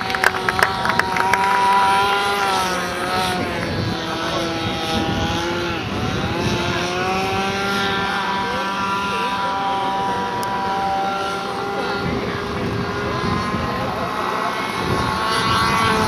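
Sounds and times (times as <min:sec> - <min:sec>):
high-pitched engine whine: 0:00.0 - 0:16.0.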